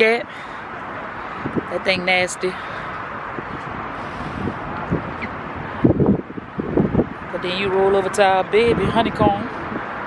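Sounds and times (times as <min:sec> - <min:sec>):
wind on microphone: 0:00.7 - 0:10.0.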